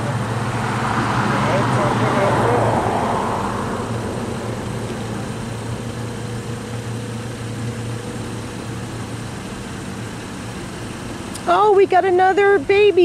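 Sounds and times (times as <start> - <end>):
road noise: 0.0 - 13.0
vehicle engine idling: 0.0 - 13.0.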